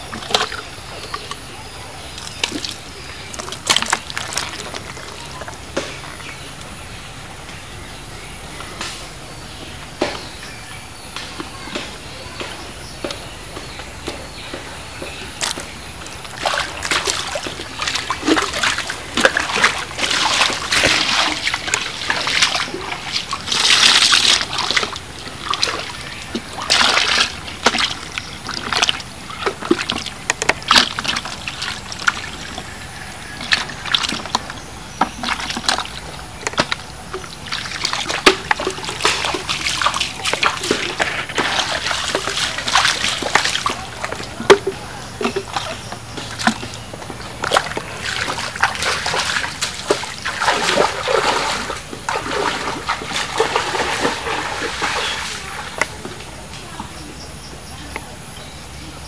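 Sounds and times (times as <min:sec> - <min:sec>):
muddy water splashing and sloshing: 0:00.0 - 0:59.0.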